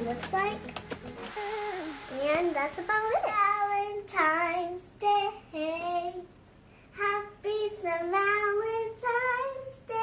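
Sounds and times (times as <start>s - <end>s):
girl singing: 0.0s - 10.0s.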